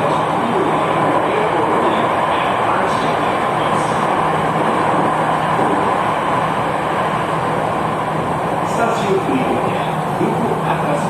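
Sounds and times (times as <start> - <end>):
train wheels rushing on rail: 0.0 - 11.0.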